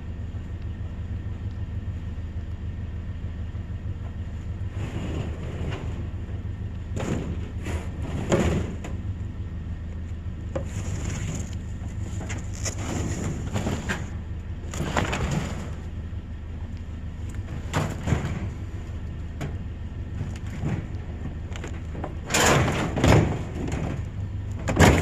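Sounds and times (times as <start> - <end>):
vehicle engine running: 0.0 - 25.0
knocks clunks and scrapes: 4.0 - 25.0.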